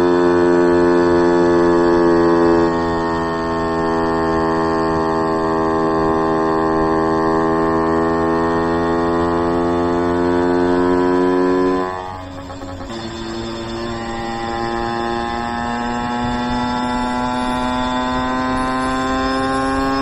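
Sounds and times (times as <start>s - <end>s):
moped two-stroke engine revving: 0.0s - 20.0s.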